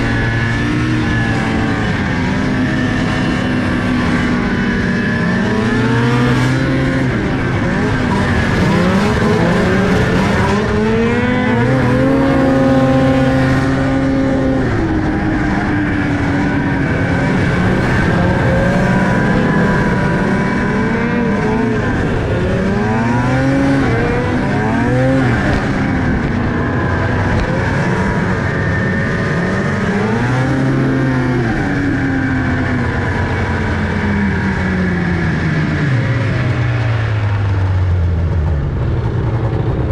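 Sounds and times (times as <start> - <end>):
constant rushing noise: 0.0 - 39.9
vehicle engine revving: 0.0 - 39.9.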